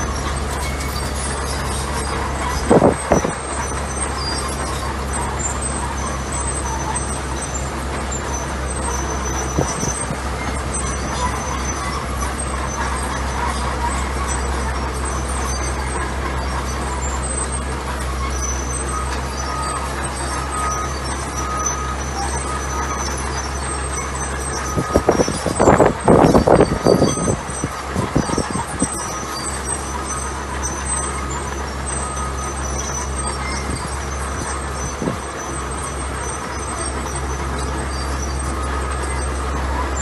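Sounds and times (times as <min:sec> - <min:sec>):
heavy diesel machinery rumbling: 0:00.0 - 0:40.0.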